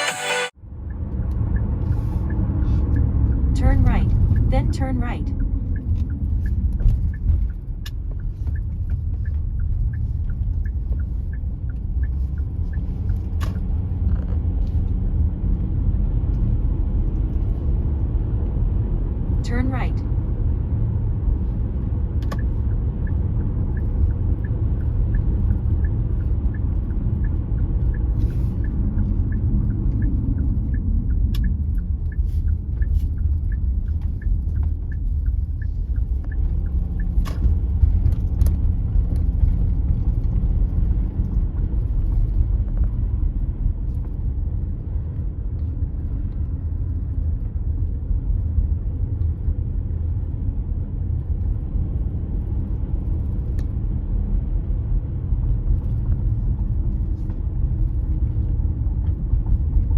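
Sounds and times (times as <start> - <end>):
car road rumble: 0.0 - 59.9
turn signal ticking: 0.0 - 59.9.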